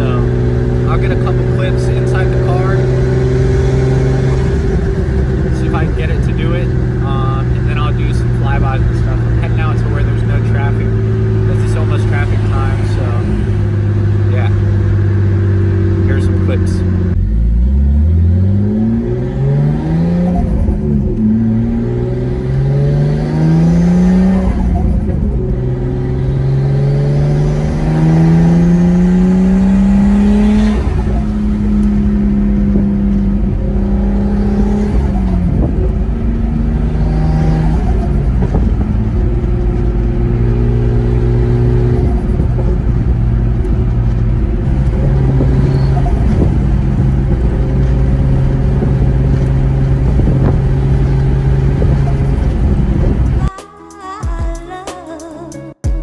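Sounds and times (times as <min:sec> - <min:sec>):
car engine accelerating through gears: 0:00.0 - 0:53.5.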